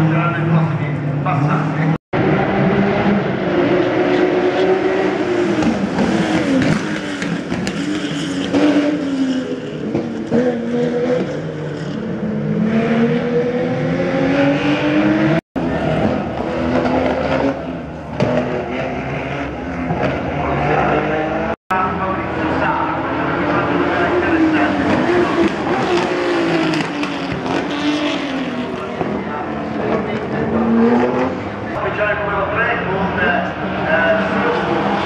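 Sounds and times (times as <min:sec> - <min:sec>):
rally cars racing past: 0:00.0 - 0:35.0.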